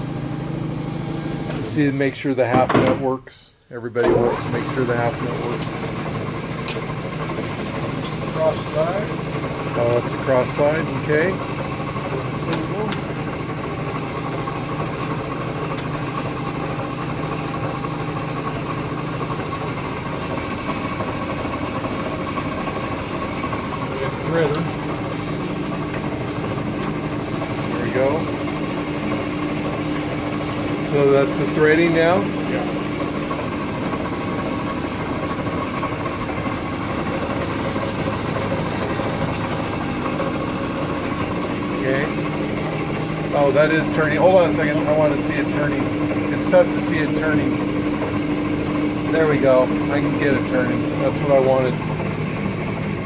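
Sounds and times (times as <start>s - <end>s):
lathe mechanical hum: 0.0s - 3.2s, 3.8s - 53.0s.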